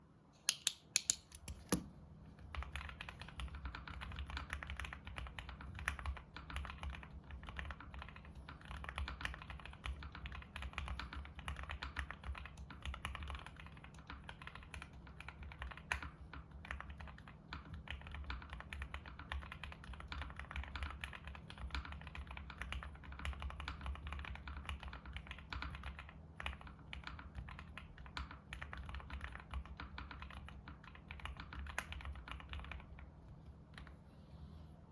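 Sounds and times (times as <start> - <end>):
fast typing on mechanical keyboard: 2.4 - 33.9.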